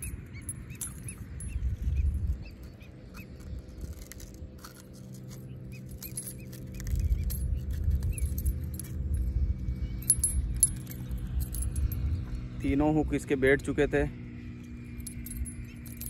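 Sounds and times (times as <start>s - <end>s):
low rumble: 0.0s - 16.0s
metal hooks clicking and clinking: 0.0s - 16.0s.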